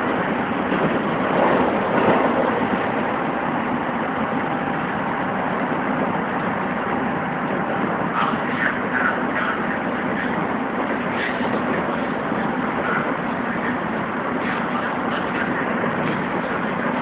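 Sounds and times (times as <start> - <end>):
train car body hum: 0.0 - 17.0
train wheels rolling on rails: 0.0 - 17.0.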